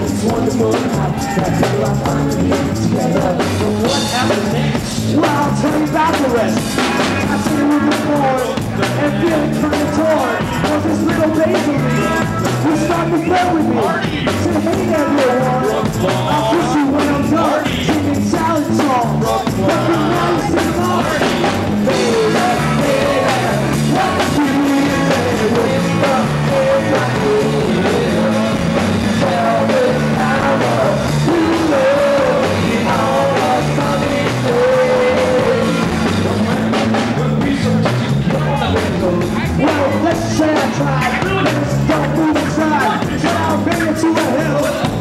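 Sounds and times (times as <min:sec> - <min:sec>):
drum kit: 0:00.0 - 0:45.0
electric guitar: 0:00.0 - 0:45.0
person singing lead vocal: 0:00.0 - 0:45.0.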